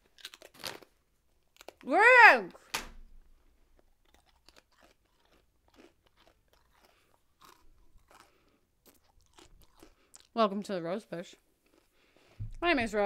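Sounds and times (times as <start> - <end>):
person chewing and crunching: 0.0 - 1.9, 3.4 - 12.6.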